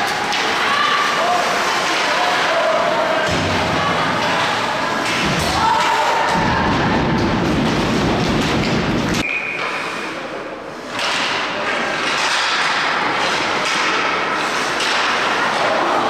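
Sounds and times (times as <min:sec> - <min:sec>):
rink and crowd noise: 0:00.0 - 0:16.0.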